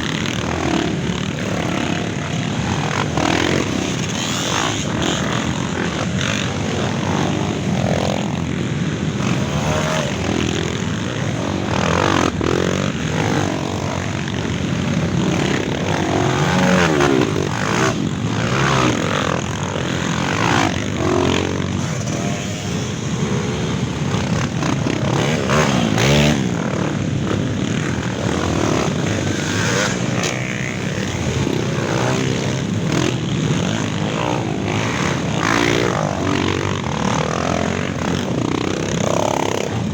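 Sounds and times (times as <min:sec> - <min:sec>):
dirt bikes revving past: 0:00.0 - 0:39.9.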